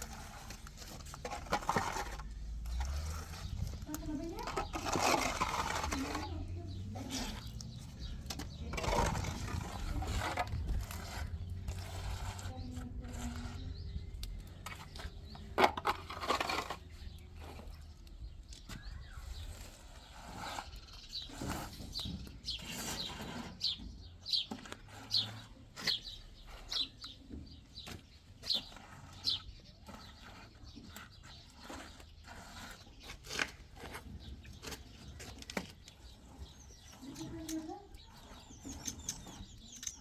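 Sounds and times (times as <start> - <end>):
bird chirping: 2.1 - 11.9, 16.4 - 40.0.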